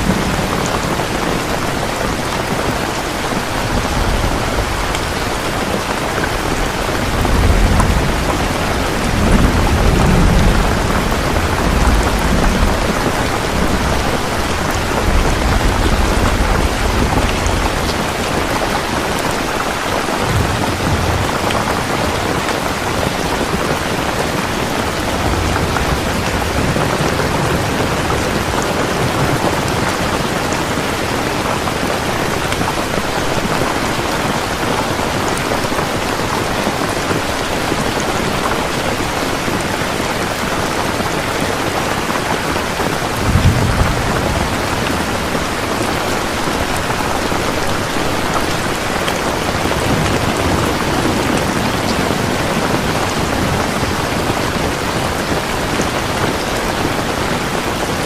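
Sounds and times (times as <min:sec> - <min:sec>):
low thunder rumble: 0:00.0 - 0:33.4, 0:42.0 - 0:56.4
steady rain falling: 0:00.0 - 0:58.0.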